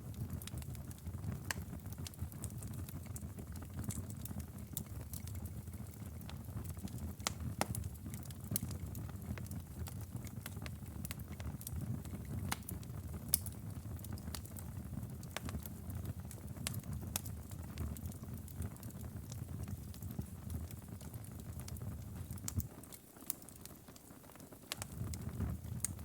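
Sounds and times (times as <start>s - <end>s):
outdoor fire crackling: 0.0s - 26.0s.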